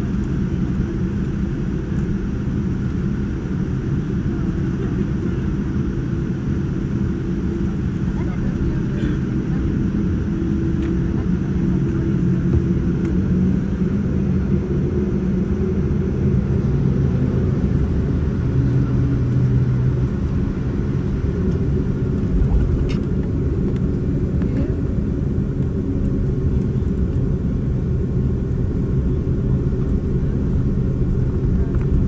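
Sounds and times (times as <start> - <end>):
airplane cabin engine rumble: 0.0 - 32.0.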